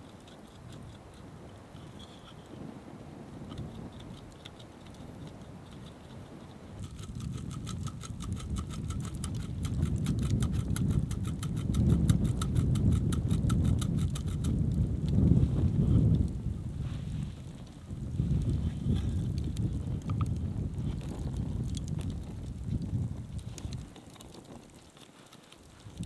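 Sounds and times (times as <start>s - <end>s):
wind buffeting microphone: 0.0s - 24.9s, 25.5s - 26.0s.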